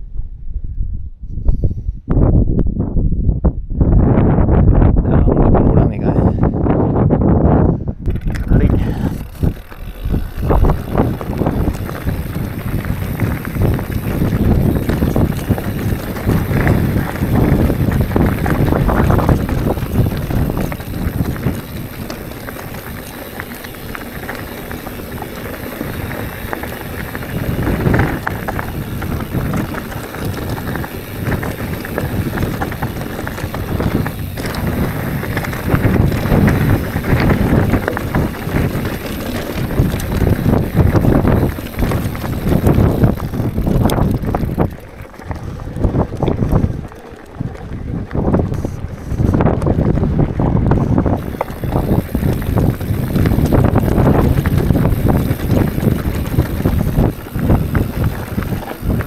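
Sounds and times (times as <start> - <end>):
wind buffeting microphone: 0.0 - 59.0
tyres rumbling on dirt: 8.0 - 59.0.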